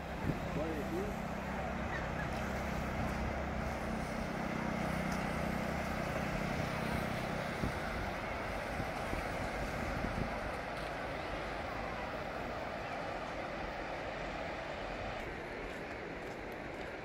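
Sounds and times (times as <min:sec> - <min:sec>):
low engine hum: 0:00.0 - 0:17.0
surf: 0:00.0 - 0:17.0
wind: 0:00.0 - 0:17.0.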